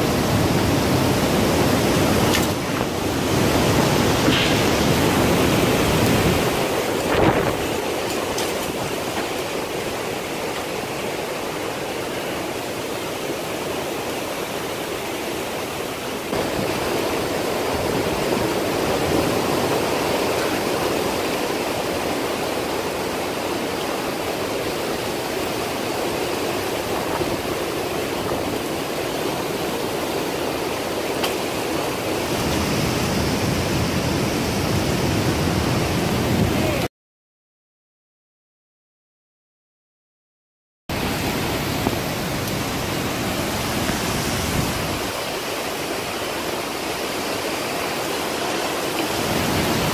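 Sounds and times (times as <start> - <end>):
storm wind blowing through trees: 0.0 - 36.9, 40.9 - 49.9.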